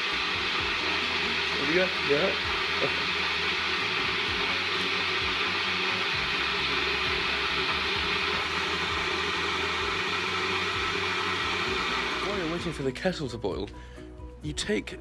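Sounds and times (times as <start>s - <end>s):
kettle heating water: 0.0s - 12.9s.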